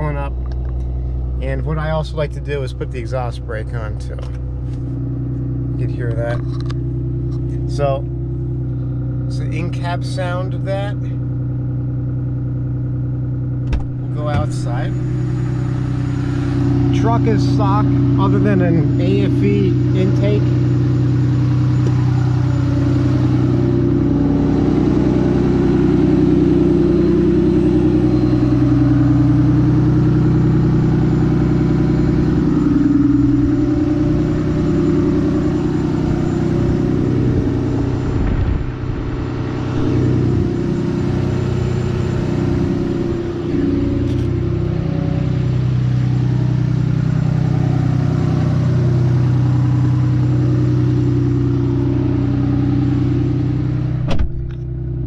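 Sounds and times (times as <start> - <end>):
diesel engine high idle: 0.0 - 55.0.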